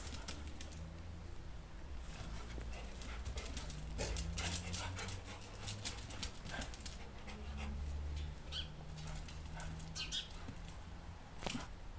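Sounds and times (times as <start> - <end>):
dogs playing: 0.0 - 1.0, 2.0 - 11.8.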